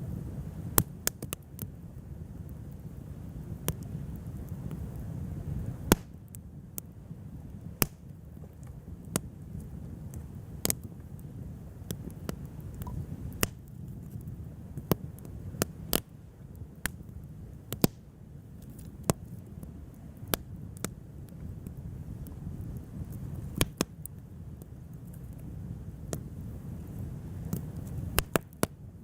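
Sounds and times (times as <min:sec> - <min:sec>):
steady low rumble: 0:00.0 - 0:28.3
wood fire crackling: 0:00.0 - 0:29.0.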